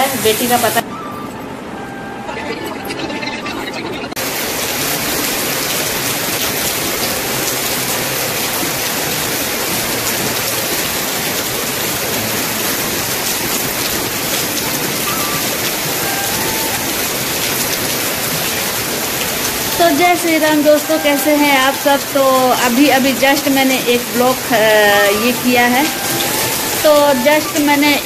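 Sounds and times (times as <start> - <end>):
heavy rain on pavement: 0.0 - 1.0, 4.2 - 28.0.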